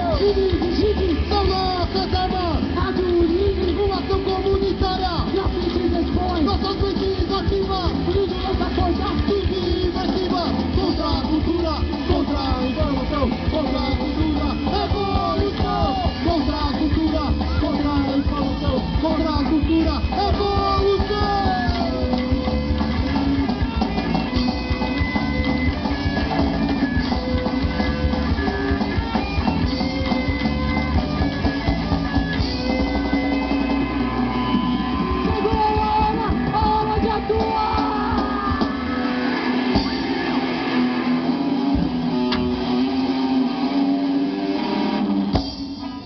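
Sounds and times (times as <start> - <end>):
bass guitar: 0.0 - 46.0
drum kit: 0.0 - 46.0
electric guitars: 0.0 - 46.0
punk band playing live: 0.0 - 46.0.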